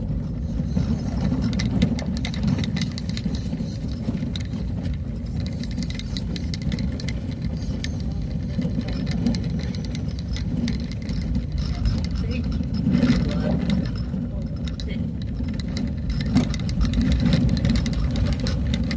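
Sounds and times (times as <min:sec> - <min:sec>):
small rattles and knocks: 0:00.0 - 0:18.9
vehicle rumbling along a road: 0:00.0 - 0:18.9.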